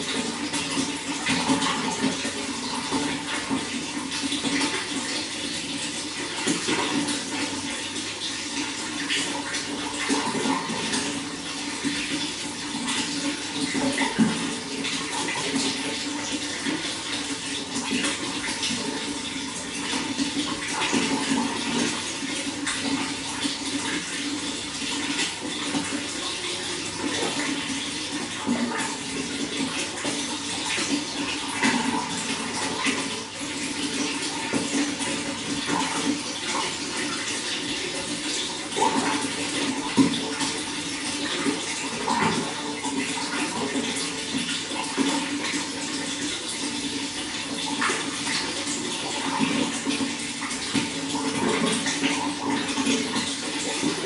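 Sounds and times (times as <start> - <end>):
running water splashing: 0.0 - 54.0.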